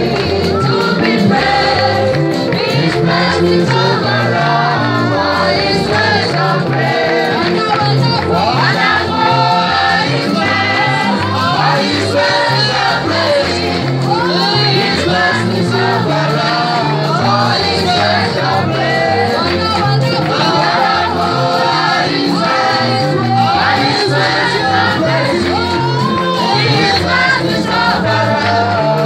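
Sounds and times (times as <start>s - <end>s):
instrumental accompaniment: 0.0s - 29.0s
women singing together: 0.0s - 29.0s.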